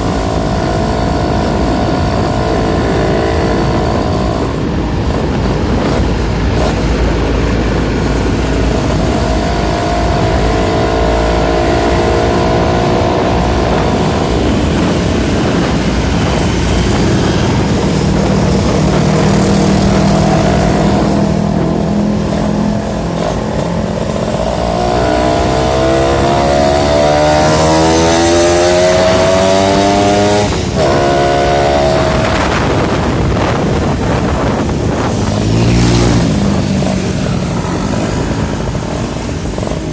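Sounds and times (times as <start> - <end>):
two-stroke motorcycle engine accelerating: 0.0 - 39.9.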